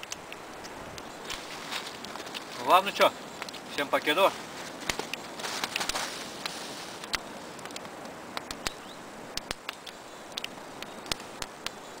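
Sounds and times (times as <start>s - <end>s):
campfire crackling: 0.0s - 12.0s
faint steady hiss: 0.0s - 12.0s.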